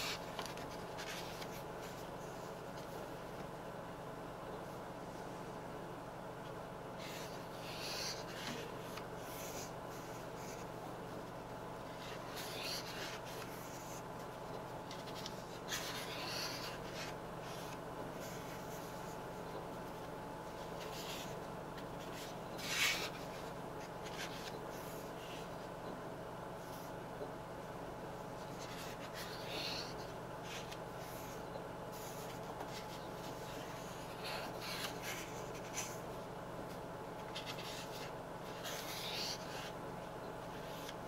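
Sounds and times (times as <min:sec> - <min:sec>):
sketchbook pages rustling: 0:00.0 - 0:03.5, 0:07.0 - 0:25.8, 0:28.2 - 0:39.8, 0:40.4 - 0:41.0.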